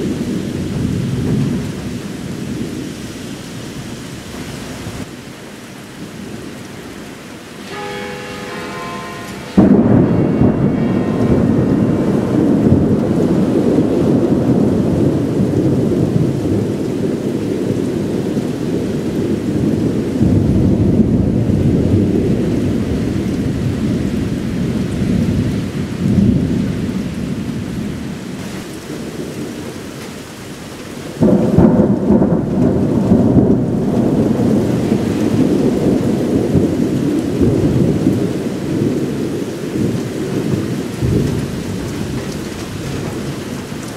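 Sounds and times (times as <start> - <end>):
rolling thunder: 0.0 - 5.1, 7.6 - 30.0, 31.0 - 43.9.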